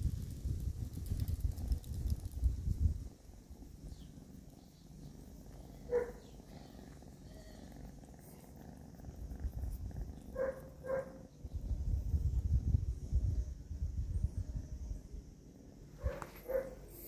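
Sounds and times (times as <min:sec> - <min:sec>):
kitten purring: 0:00.0 - 0:17.0.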